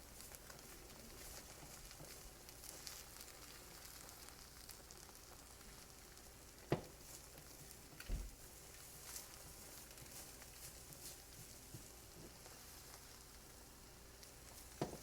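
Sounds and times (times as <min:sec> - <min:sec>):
eggs sizzling in a pan: 0:00.0 - 0:15.0.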